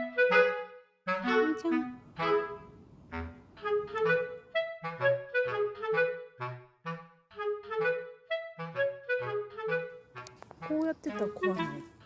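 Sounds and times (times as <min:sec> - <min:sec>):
light woodwind melody: 0:00.0 - 0:12.0.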